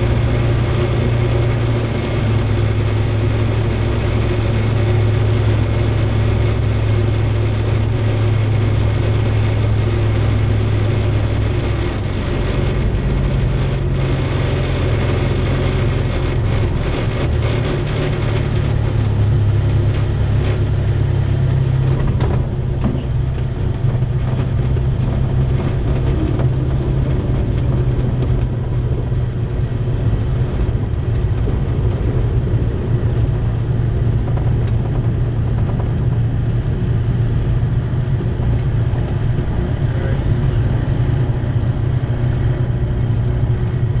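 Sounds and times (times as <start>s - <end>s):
aircraft engine droning: 0.0s - 44.0s.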